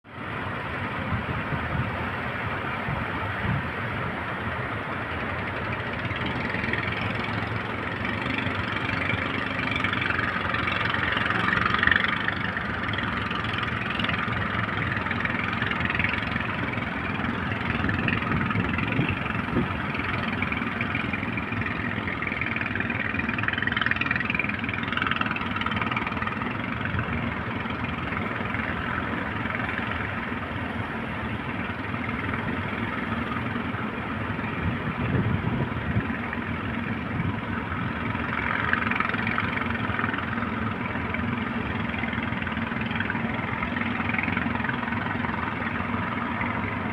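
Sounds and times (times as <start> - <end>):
ocean waves breaking: 0.1 - 46.9.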